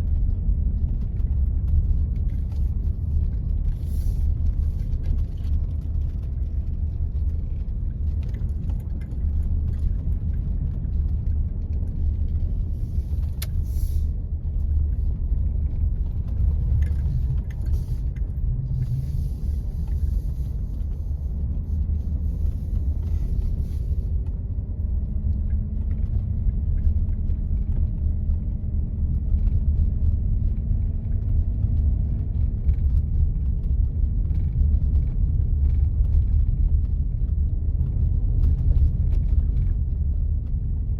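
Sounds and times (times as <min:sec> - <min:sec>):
vehicle engine and tyres rumbling: 0:00.0 - 0:40.9.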